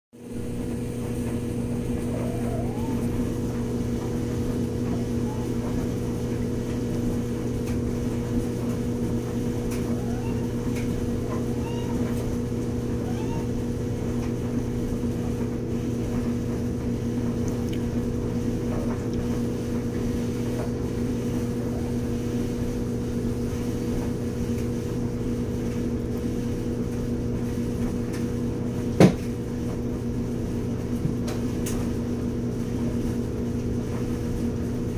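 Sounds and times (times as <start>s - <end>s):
steady machine hum: 0.2s - 34.9s.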